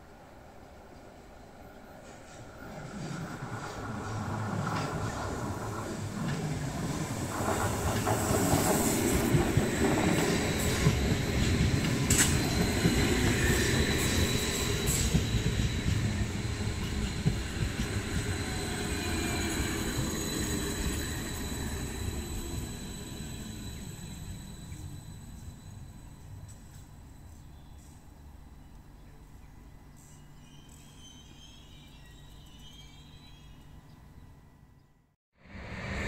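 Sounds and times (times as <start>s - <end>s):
rumble of train wheels: 0.0s - 34.7s.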